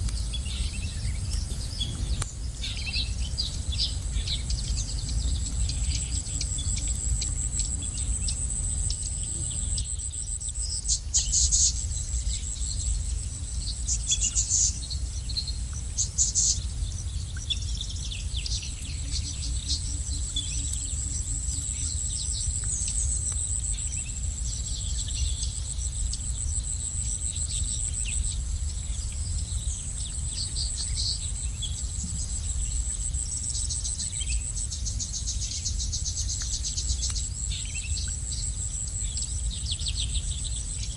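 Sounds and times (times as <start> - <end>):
low background rumble: 0.0 - 40.9
small birds chirping: 0.0 - 40.9.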